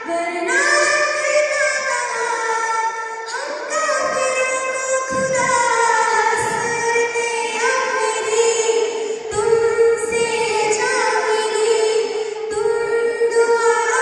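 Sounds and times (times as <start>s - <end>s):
woman singing: 0.0s - 2.7s, 3.3s - 14.0s.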